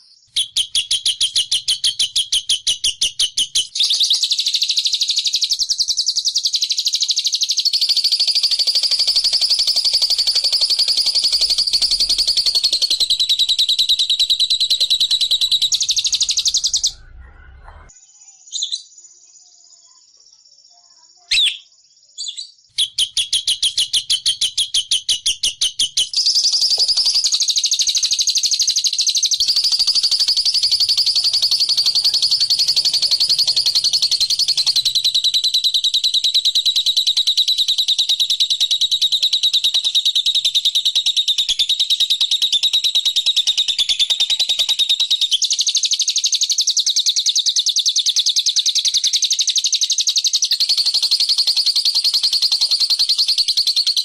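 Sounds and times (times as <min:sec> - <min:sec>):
bird chirping and trilling: 0:00.0 - 0:19.0, 0:21.2 - 0:45.7, 0:49.0 - 0:54.0.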